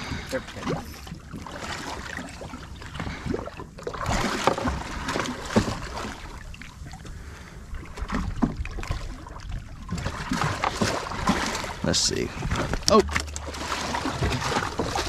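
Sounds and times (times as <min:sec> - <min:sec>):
water lapping against boat hull: 0:00.0 - 0:15.0.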